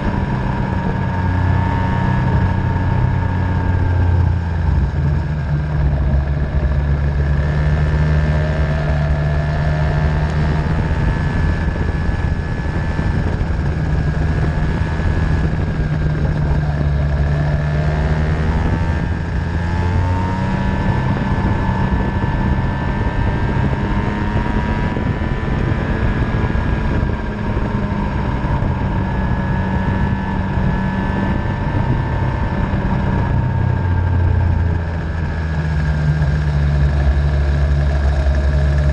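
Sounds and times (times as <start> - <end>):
racing engine running: 0.0 - 38.9.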